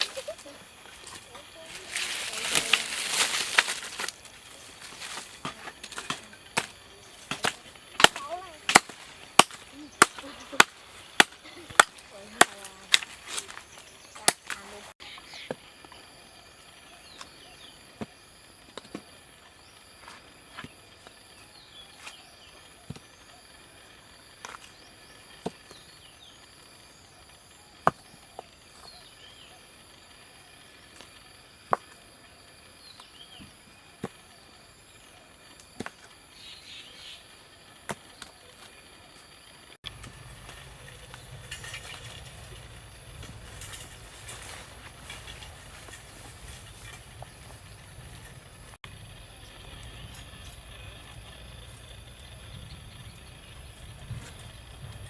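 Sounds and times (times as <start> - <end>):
birds chirping: 0.0 - 18.5, 19.1 - 55.0
high insect buzz: 0.0 - 55.0.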